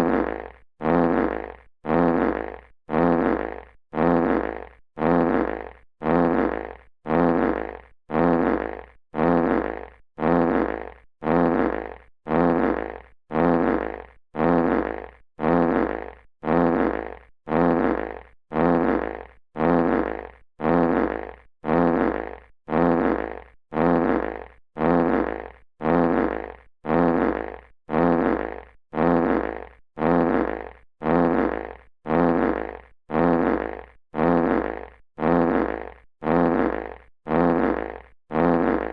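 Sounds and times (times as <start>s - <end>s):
fart sound effect: 0.0s - 38.9s.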